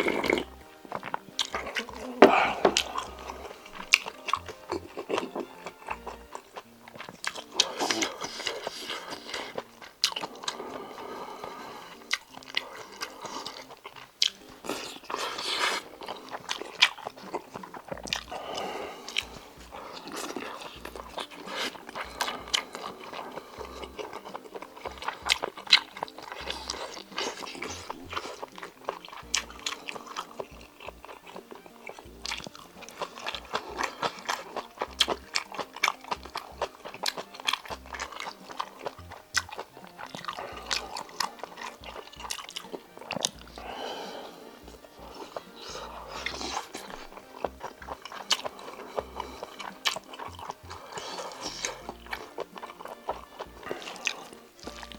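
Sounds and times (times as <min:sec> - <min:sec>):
background music: 0:00.0 - 0:54.9
person chewing and crunching: 0:00.0 - 0:54.9.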